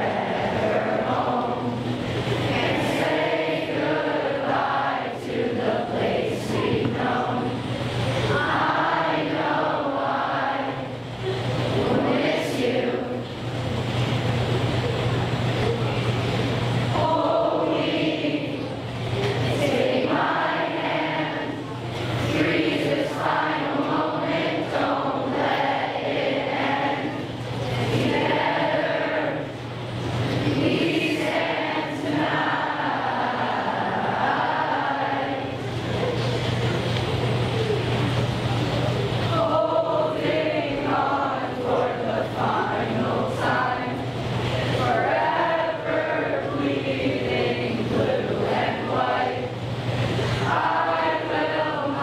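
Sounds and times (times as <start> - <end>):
group of kids singing: 0.0 - 13.4, 16.8 - 36.6, 39.2 - 52.0.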